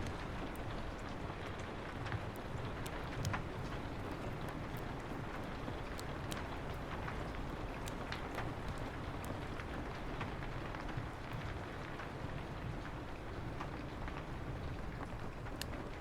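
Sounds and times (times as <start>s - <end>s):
rain on a window: 0.0s - 16.0s
wood fire crackling and popping: 0.0s - 16.0s.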